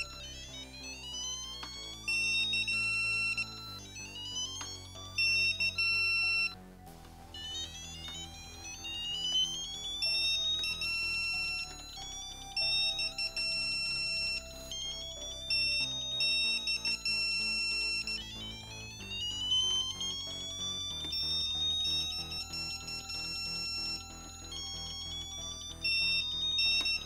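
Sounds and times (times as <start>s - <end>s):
loud steady beep: 1.8s - 6.6s, 7.4s - 27.0s.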